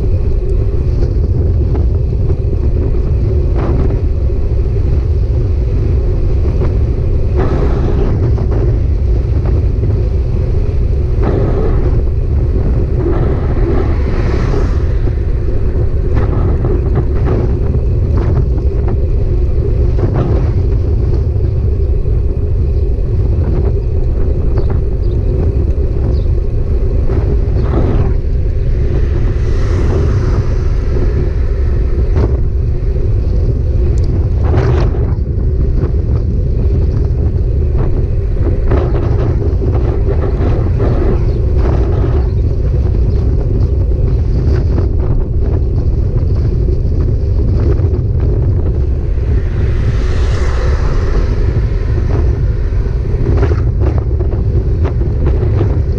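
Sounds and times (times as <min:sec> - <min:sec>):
road and wind noise: 0:00.0 - 0:55.9.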